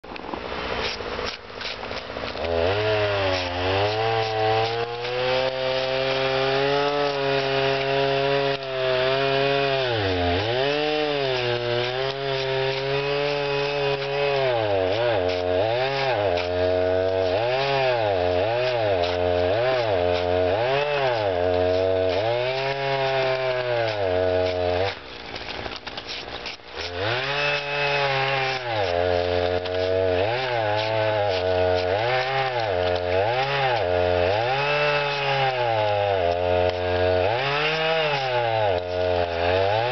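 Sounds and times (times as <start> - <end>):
chainsaw cutting ice: 0.0 - 39.9.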